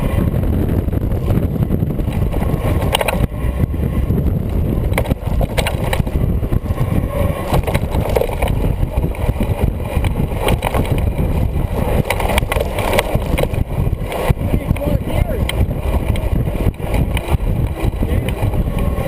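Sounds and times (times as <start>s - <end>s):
tyres rumbling on dirt trail: 0.0s - 19.0s
wind buffeting microphone: 0.0s - 19.0s
bike knocks and rattles: 0.3s - 19.0s.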